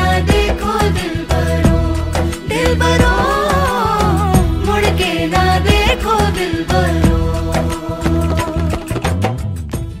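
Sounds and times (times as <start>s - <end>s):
instrumental music with drumbeat: 0.0s - 10.0s.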